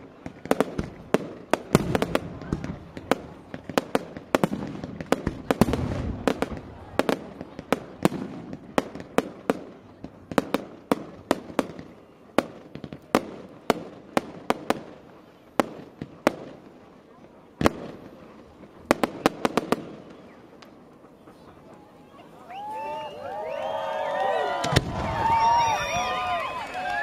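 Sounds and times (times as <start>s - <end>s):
fireworks bangs and cracks: 0.0s - 21.0s, 23.5s - 27.0s.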